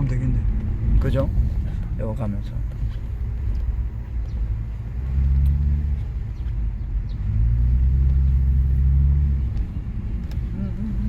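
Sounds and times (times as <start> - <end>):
car engine and road hum: 0.0 - 11.0.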